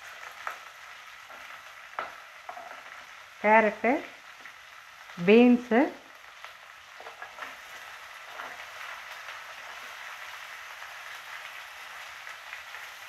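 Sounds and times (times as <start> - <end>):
vegetables sizzling in hot fat: 0.0 - 13.0.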